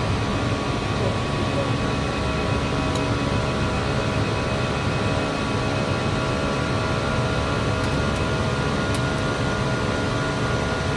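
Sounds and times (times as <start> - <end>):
cockpit airflow and engine noise: 0.0 - 10.9
steady humming tones: 0.0 - 10.9.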